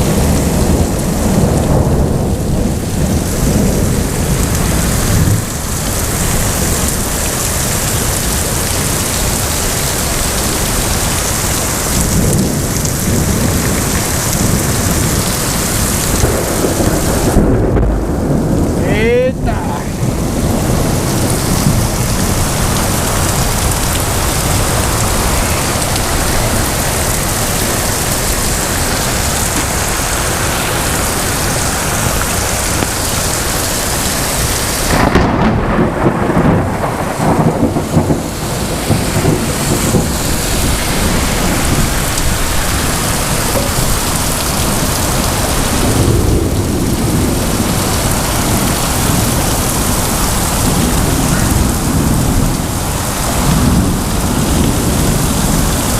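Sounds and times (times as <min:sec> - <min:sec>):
heavy rain pouring: 0:00.0 - 0:55.9
thunder rumbling: 0:00.0 - 0:55.9.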